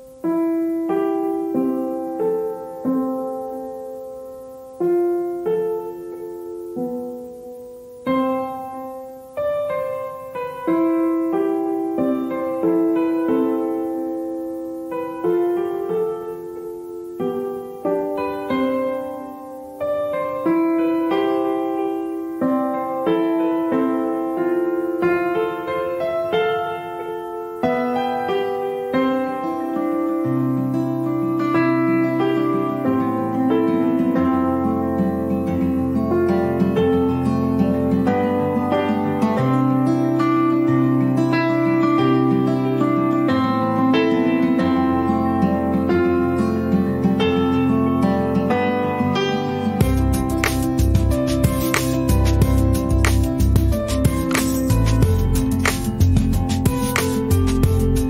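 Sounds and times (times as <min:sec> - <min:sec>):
slow gentle piano: 0:00.0 - 0:58.0.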